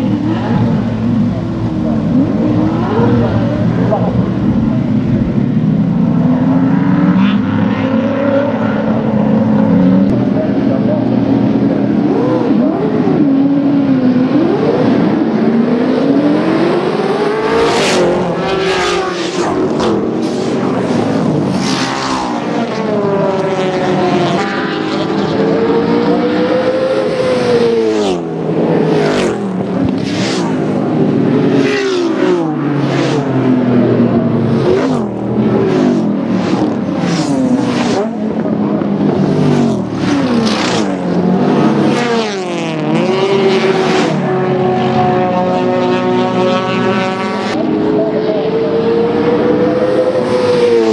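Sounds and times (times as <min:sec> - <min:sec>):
racing cars passing at speed: 0:00.0 - 0:50.9.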